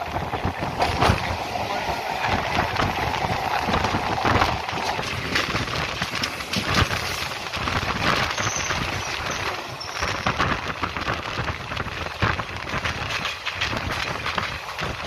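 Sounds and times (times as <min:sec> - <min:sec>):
electric train passing close: 0:00.0 - 0:15.0
train wheels clattering over rail joints: 0:00.0 - 0:15.0
wind rushing: 0:00.0 - 0:15.0.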